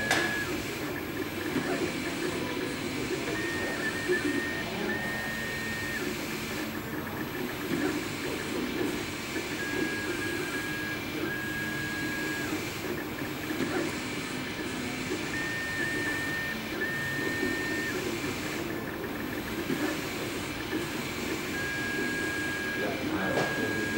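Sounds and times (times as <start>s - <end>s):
stepper motors whining: 0.0s - 23.9s.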